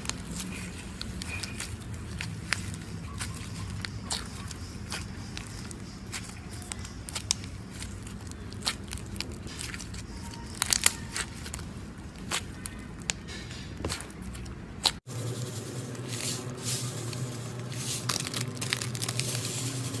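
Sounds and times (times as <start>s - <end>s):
slime squeezed crackling and popping: 0.0s - 15.0s, 17.8s - 19.6s.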